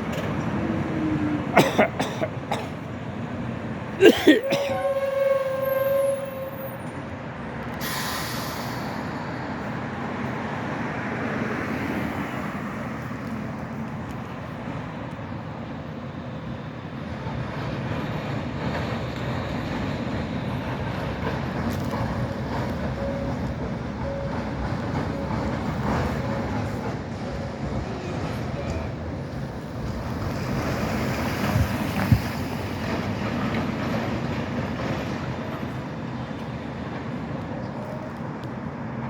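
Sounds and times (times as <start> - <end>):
street traffic: 0.0 - 39.0
tram wheels on rails: 0.0 - 39.0.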